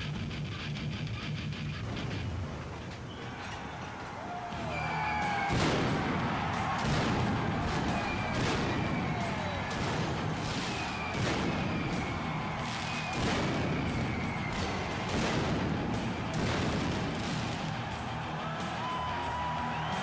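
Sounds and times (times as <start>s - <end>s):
music: 0.0s - 20.0s
pyrotechnic bangs: 1.6s - 18.4s.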